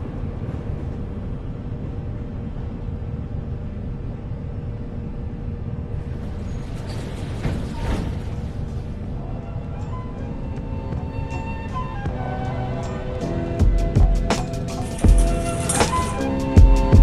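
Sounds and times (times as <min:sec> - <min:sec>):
metro train rumbling: 0:00.0 - 0:17.0.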